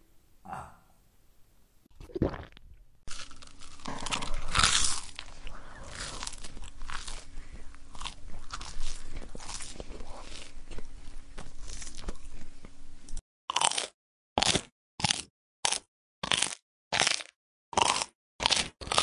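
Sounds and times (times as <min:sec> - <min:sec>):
mouth chewing crunchy food: 0:01.9 - 0:12.5, 0:13.5 - 0:19.0.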